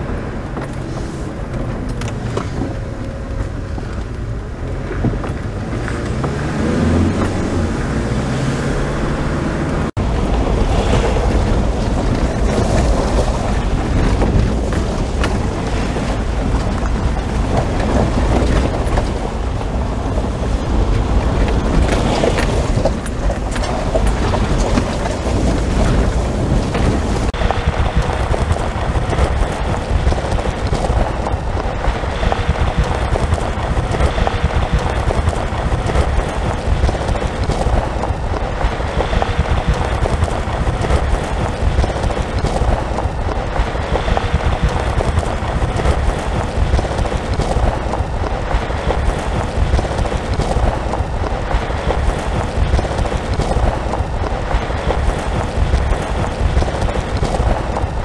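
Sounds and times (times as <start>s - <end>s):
car engine rumble: 0.0s - 58.0s
tyres on gravel: 0.0s - 58.0s.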